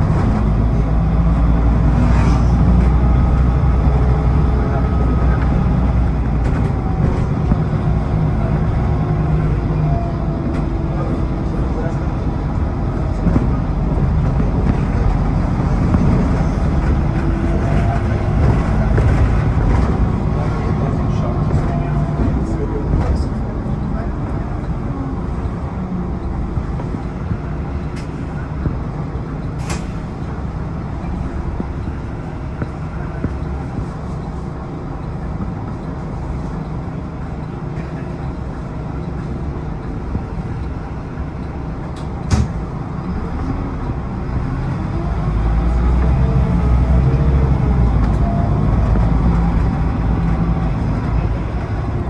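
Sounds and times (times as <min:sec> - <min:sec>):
bus engine rumble: 0:00.0 - 0:52.0
road noise: 0:00.0 - 0:52.0.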